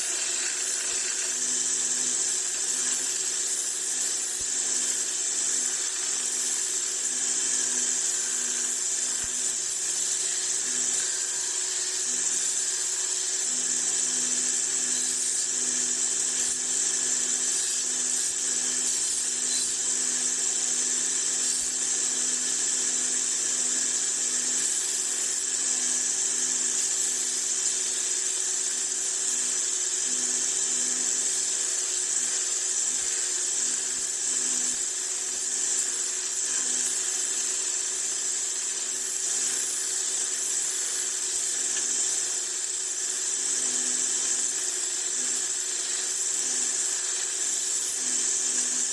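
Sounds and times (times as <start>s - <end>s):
small electric motor whining: 0.0s - 48.9s.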